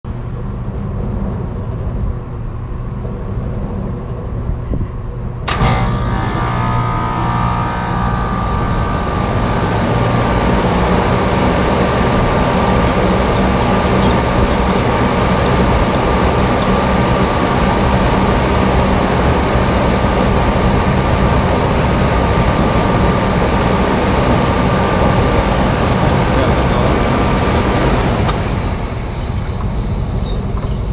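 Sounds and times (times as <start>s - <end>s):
air conditioner running: 0.1s - 30.9s.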